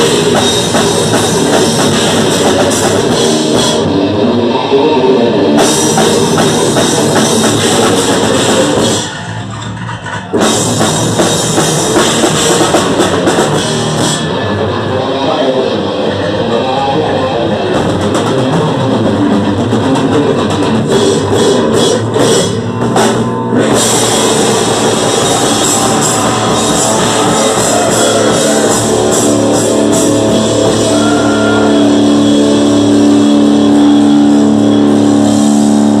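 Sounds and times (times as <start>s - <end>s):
dense cymbal work: 0.0s - 9.6s, 10.3s - 36.0s
death metal band playing live: 0.0s - 36.0s.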